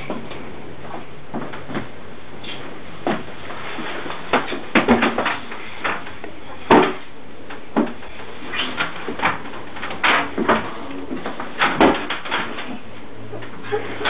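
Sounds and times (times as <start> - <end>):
rustling of people moving: 0.0 - 14.0.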